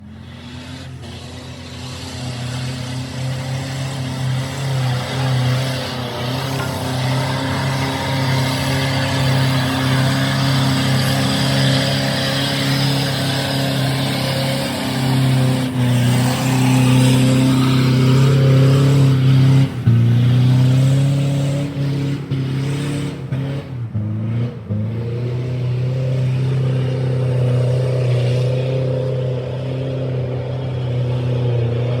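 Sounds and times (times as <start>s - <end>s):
turbocharged engine under load: 0.0s - 32.0s.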